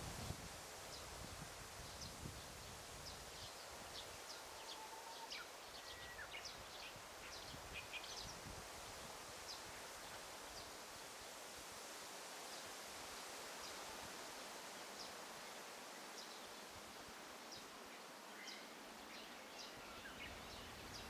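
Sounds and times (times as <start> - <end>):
air and leaves hiss: 0.0 - 4.6, 5.4 - 21.0.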